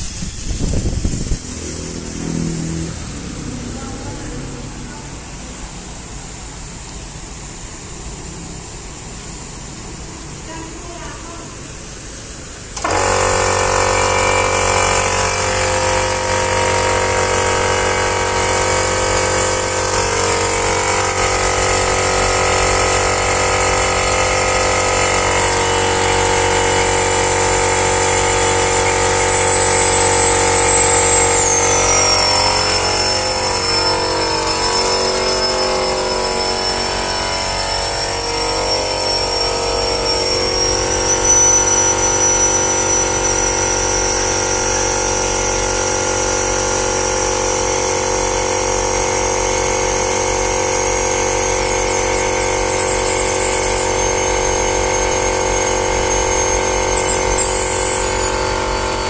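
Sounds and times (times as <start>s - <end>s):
high machine whine: 0.0s - 59.0s
machine humming: 0.0s - 59.0s.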